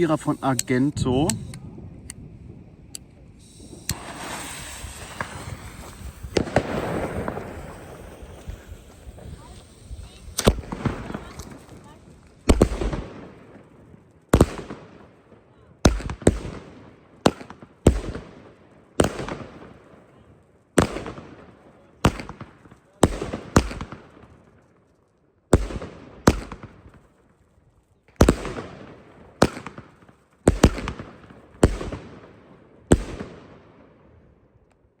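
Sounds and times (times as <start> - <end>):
firework bangs: 0.0 - 24.7, 25.5 - 27.4, 28.1 - 34.3.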